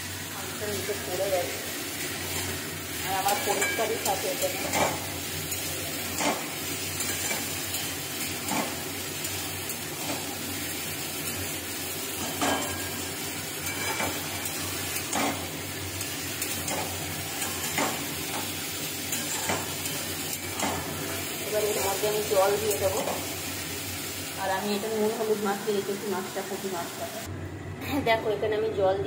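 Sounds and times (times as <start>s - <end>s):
vegetables sizzling in oil: 0.0s - 27.3s.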